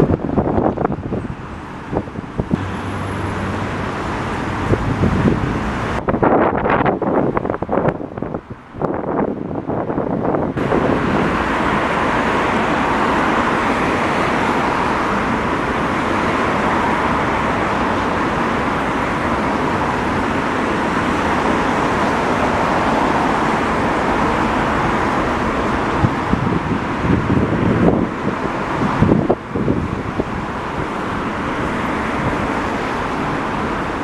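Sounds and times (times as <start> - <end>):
bus driving closer: 0.0 - 34.0
bus engine: 0.0 - 34.0
traffic noise: 0.0 - 34.0.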